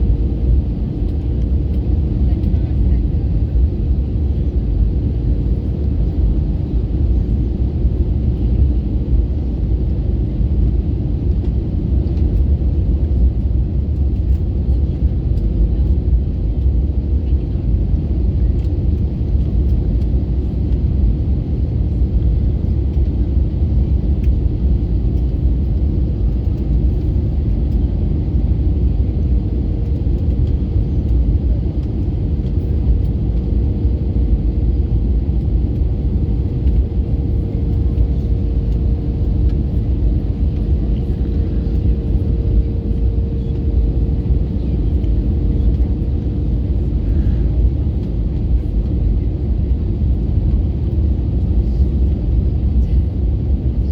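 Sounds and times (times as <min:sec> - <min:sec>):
cabin engine and airflow rumble: 0:00.0 - 0:53.9.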